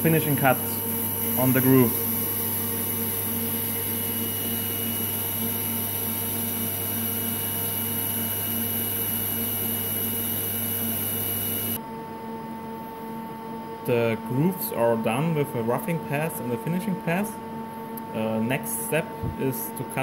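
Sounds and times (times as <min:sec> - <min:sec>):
machine hum: 0:00.0 - 0:19.9.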